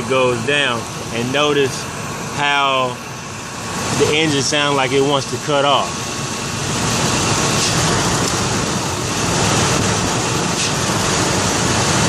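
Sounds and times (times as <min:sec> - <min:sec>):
engine sputtering: 0:00.0 - 0:12.0.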